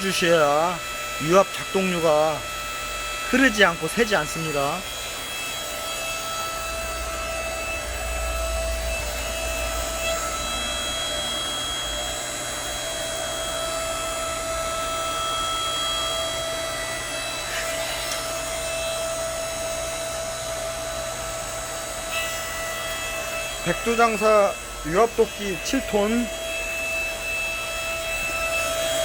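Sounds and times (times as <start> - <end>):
hydraulic pump motor whining: 0.0 - 29.0.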